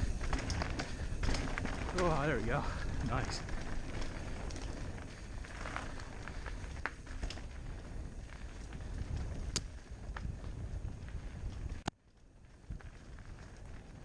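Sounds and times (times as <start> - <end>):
tyres rumbling on dirt: 0.0 - 11.8
wind on microphone: 0.0 - 11.8
bike clicks and rattles: 0.0 - 14.0.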